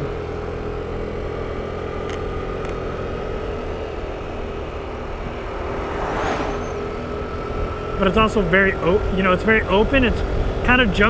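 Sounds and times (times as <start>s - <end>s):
wind and road rumble: 1.2s - 11.0s.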